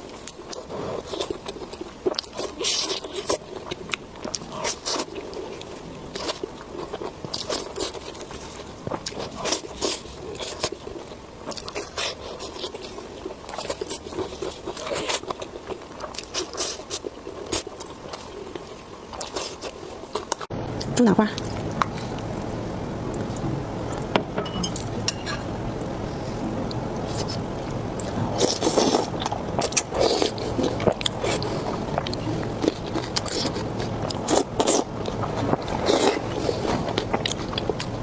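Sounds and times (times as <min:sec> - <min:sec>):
person chewing crunchy food: 0:00.0 - 0:24.1, 0:24.8 - 0:38.0.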